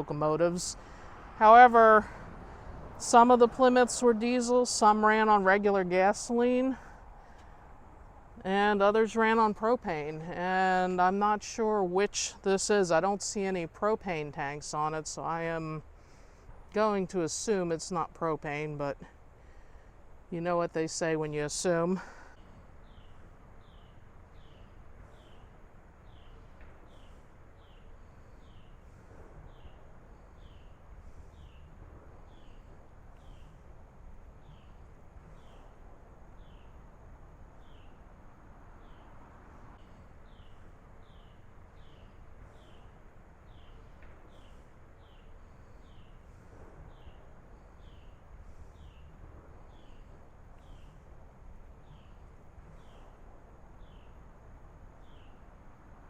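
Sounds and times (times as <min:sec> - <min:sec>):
low steady rumble: 0:00.0 - 0:56.0.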